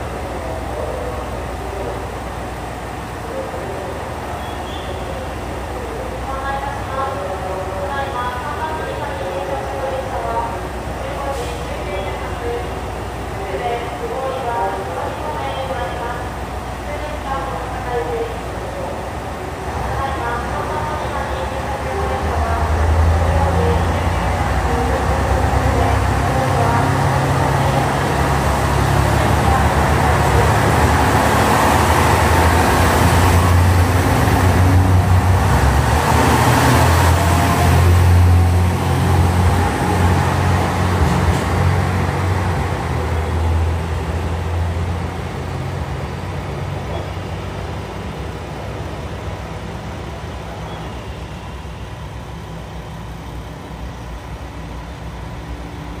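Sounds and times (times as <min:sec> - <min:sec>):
diesel train engines droning: 0:00.0 - 0:56.0.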